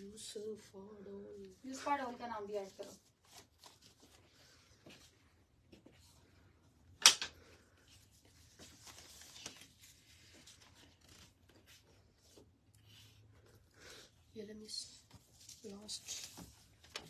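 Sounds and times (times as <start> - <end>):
rustling and handling noises: 0.0 - 17.0.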